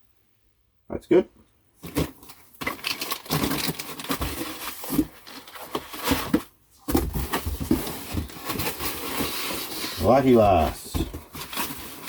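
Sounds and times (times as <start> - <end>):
packaging rustling: 1.8 - 12.0.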